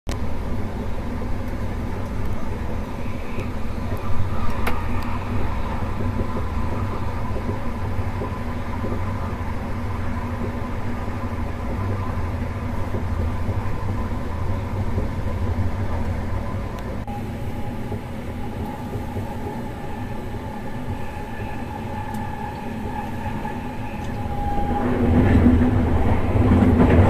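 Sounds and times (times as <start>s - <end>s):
train rumble from aboard: 0.1s - 27.0s.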